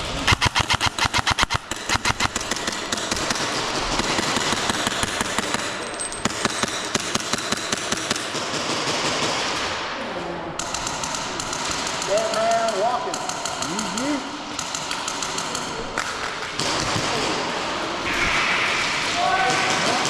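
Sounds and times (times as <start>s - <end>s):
airsoft gun firing: 0.0s - 9.9s, 10.6s - 13.8s, 14.5s - 20.0s.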